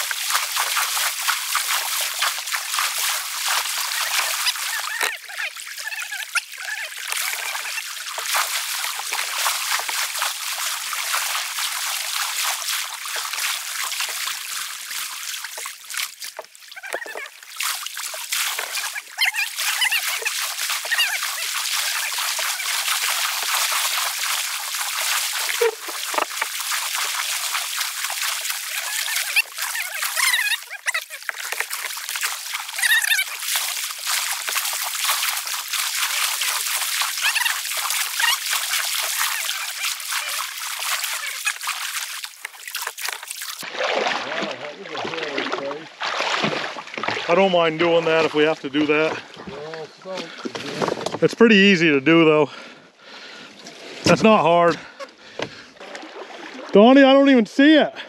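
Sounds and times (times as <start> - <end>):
water splashing: 0.0 - 58.0.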